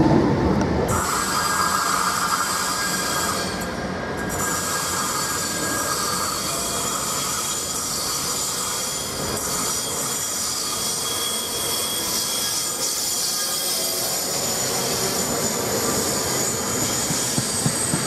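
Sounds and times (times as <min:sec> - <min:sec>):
train rolling slowly: 0:00.0 - 0:18.0
high-pitched wheel squeal: 0:00.9 - 0:18.0.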